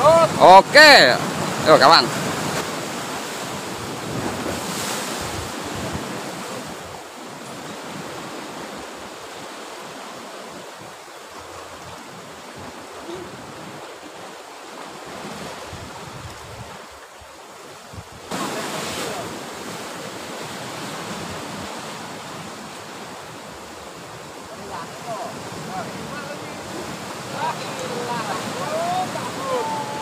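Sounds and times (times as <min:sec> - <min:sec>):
sea surf breaking on shore: 0:00.0 - 0:30.0.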